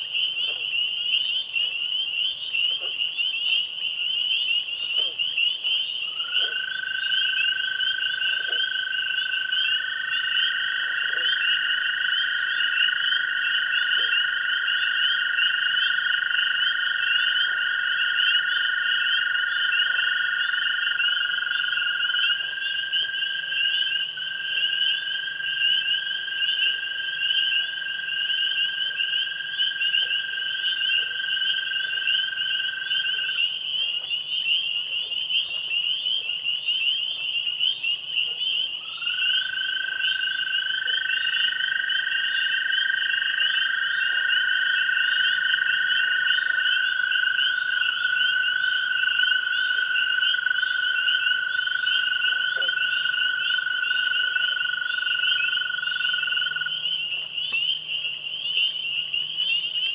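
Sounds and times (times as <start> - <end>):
frog trills: 0.0 - 59.9
frogs high-pitched peeping: 0.0 - 59.9.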